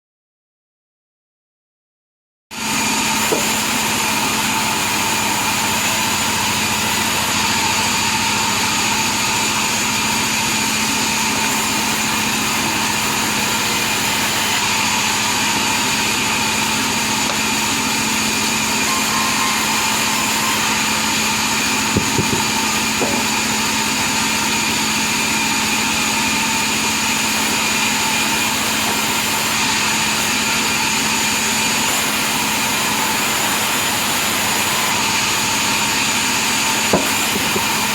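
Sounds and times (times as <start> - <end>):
sawmill machine whining: 2.6 - 37.9.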